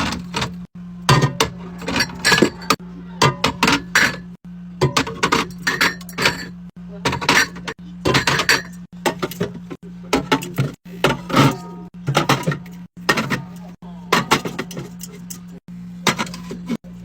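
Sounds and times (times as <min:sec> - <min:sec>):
bottles and cans clinking: 0:00.0 - 0:16.8
low fridge hum: 0:00.0 - 0:17.0.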